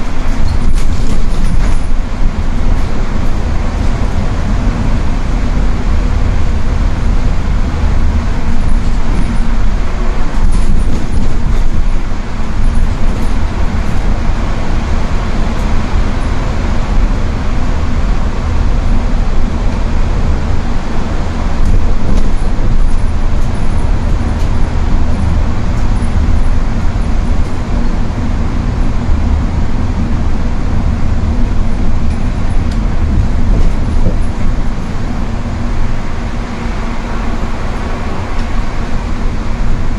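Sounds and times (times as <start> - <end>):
vehicle road noise on wet road: 0.0 - 39.9.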